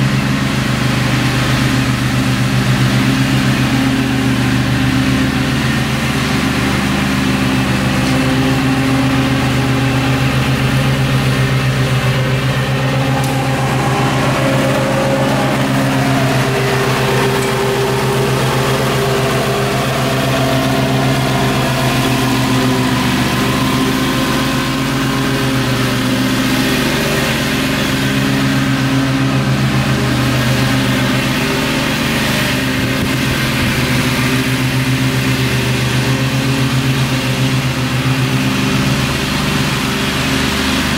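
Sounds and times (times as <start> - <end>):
riding mower engine running: 0.0 - 40.9.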